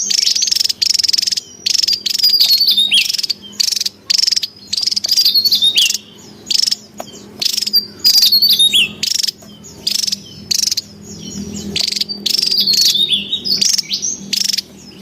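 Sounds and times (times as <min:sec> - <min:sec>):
bird whistled notes: 0:00.0 - 0:06.8, 0:07.4 - 0:15.0
bird buzzy trills: 0:00.0 - 0:15.0.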